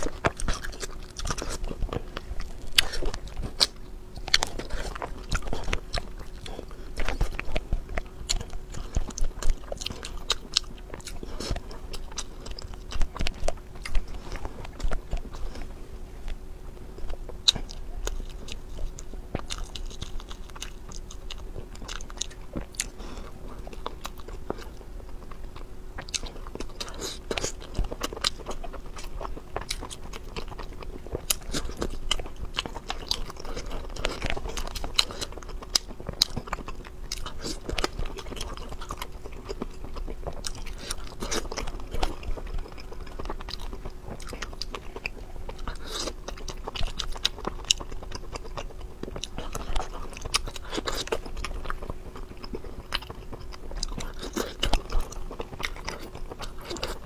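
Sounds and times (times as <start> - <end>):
chewing and crunching: 0.0 - 57.0
faint hum: 0.0 - 57.0.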